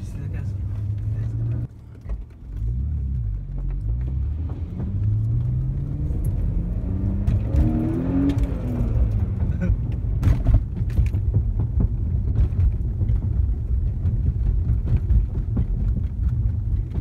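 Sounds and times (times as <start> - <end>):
tyres rumbling on wooden boards: 0.8 - 17.0.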